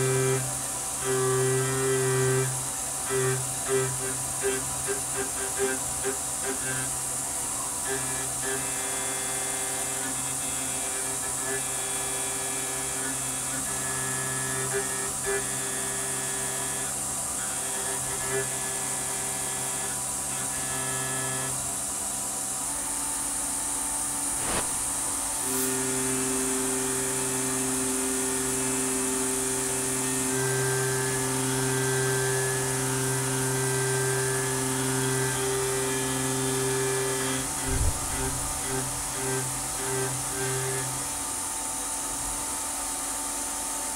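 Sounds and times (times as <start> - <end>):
cutter humming: 0.0 - 21.6, 24.3 - 41.1
milling machine spindle whine: 0.0 - 43.0.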